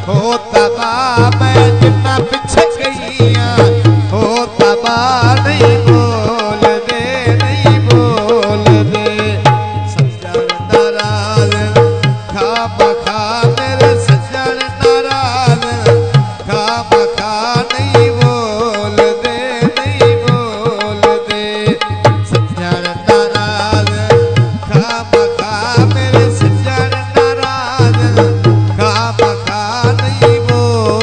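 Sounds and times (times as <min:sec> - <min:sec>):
tabla and drums beat: 0:00.0 - 0:31.0.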